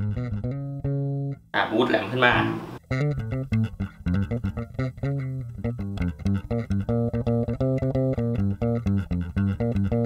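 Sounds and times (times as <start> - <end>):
electric bass plucked fingerstyle: 0.0 - 1.5, 2.8 - 10.0.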